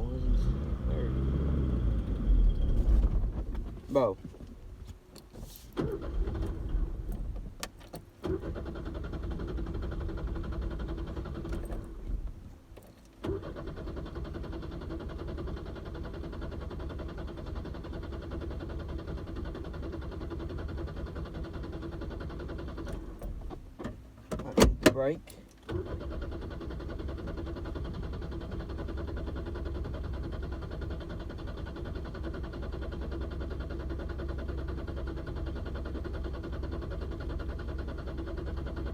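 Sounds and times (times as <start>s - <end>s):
pickup engine turning over and running: 0.0s - 25.0s, 25.6s - 38.9s.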